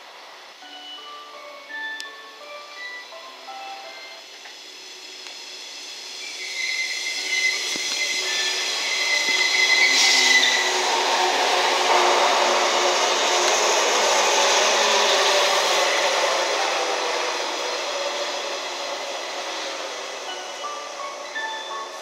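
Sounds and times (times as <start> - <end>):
train wheels on rails: 1.4 - 22.0.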